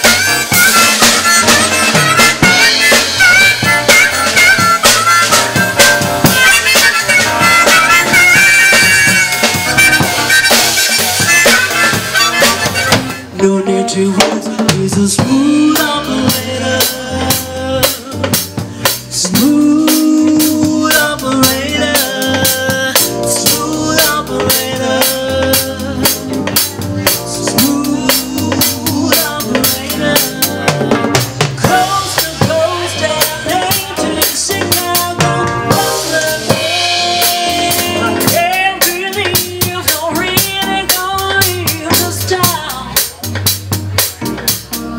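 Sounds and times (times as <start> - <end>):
band playing instrumental music: 0.0 - 44.9.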